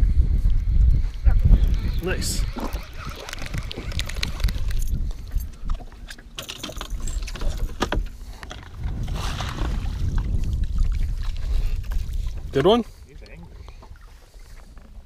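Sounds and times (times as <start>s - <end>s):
water around a boat: 0.0s - 15.0s
wind: 0.0s - 15.0s.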